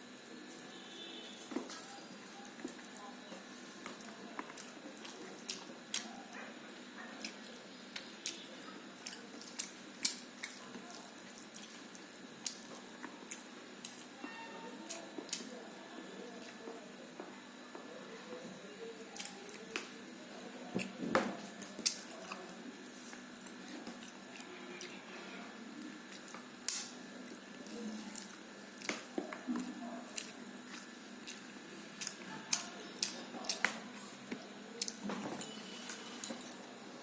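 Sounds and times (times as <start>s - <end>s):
food squishing: 1.2s - 17.0s, 19.0s - 37.0s.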